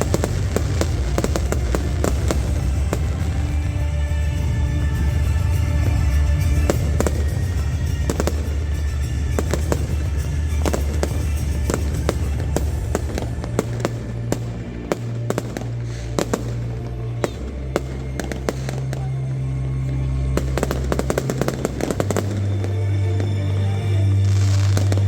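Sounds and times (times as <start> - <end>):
fireworks bangs and crackles: 0.0 - 25.0
music with deep held notes: 0.0 - 25.0.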